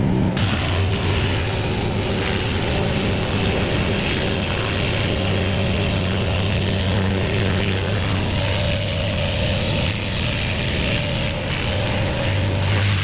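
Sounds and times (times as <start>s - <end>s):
pressure washer engine drone: 0.0s - 13.0s
water spray hissing: 0.4s - 13.0s.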